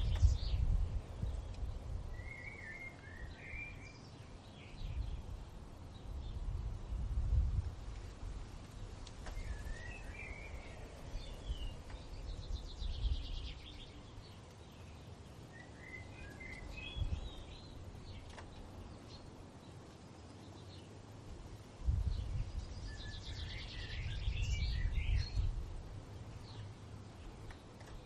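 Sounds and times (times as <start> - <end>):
songbirds singing: 0.0 - 28.0
wind gusts rumble: 0.0 - 28.0.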